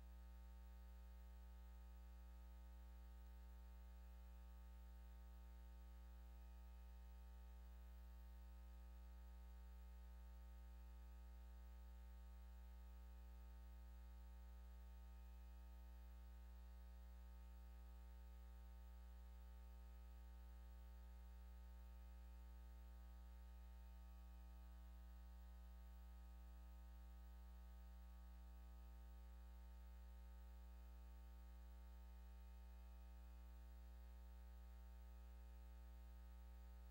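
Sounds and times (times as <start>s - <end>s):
faint low electrical hum: 0.0s - 36.9s.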